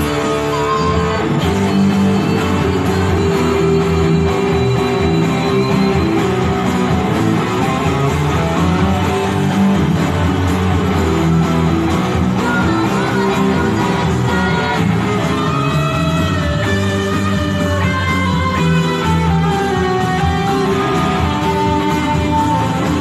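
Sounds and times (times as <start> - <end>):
electric guitar lead: 0.0 - 23.0
pop-rock backing track: 0.0 - 23.0.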